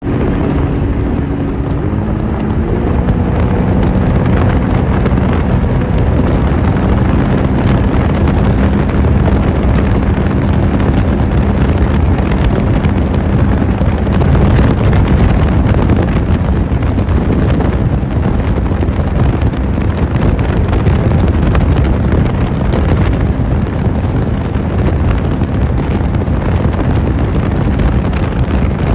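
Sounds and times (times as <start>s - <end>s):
personal watercraft engine speeding up: 0.0s - 28.9s
wind buffeting microphone: 0.0s - 28.9s.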